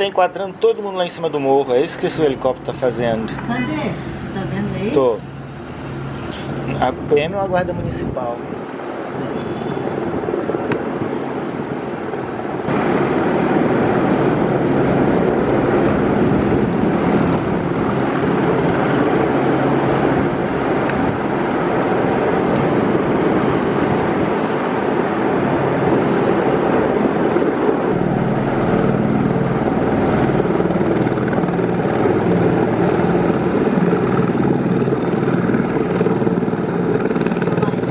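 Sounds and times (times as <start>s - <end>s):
helicopter rotor and engine: 0.0s - 37.9s.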